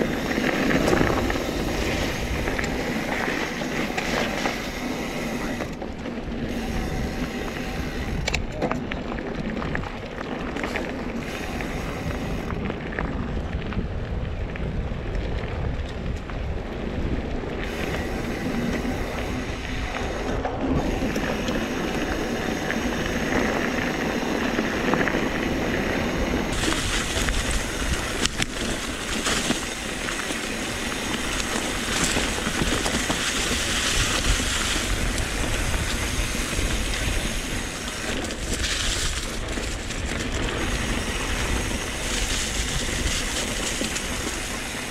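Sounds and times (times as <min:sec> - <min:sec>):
tyres crunching on gravel: 0:00.0 - 0:44.9
wind buffeting microphone: 0:00.0 - 0:44.9.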